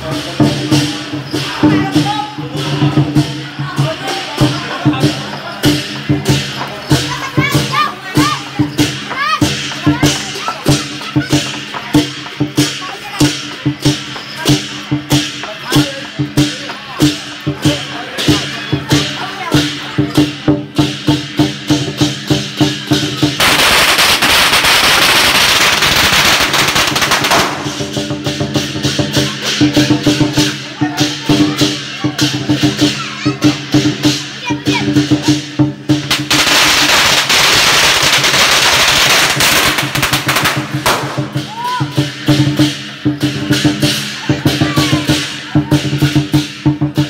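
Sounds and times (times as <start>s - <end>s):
drum and cymbals beating: 0.0s - 47.0s
firecrackers crackling: 0.0s - 47.0s.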